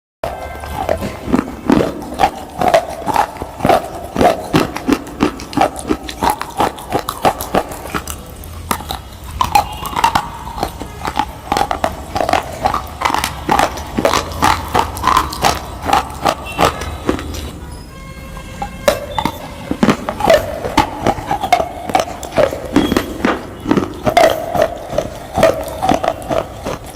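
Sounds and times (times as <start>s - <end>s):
food crunching while chewed: 0.2s - 17.7s, 18.6s - 26.9s.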